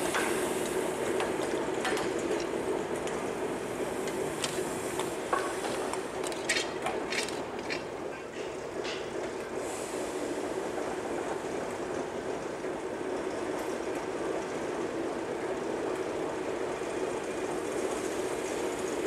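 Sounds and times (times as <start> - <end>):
locomotive rumbling: 0.0 - 19.0.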